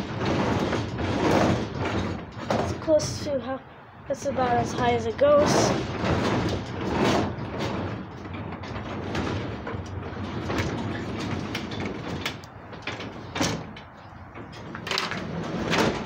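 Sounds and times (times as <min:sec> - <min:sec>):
garage door rolling on tracks: 0:00.0 - 0:16.0
rollers clicking and knocking: 0:00.0 - 0:16.0.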